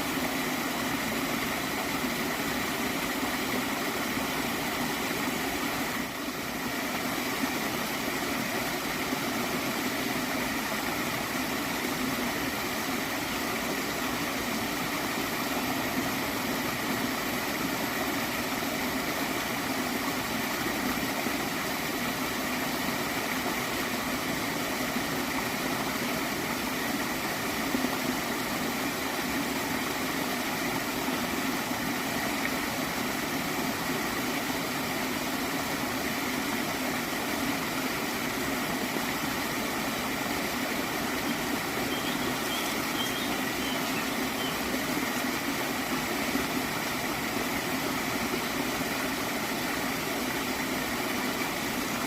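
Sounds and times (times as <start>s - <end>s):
water flowing in a stream: 0.0s - 52.0s.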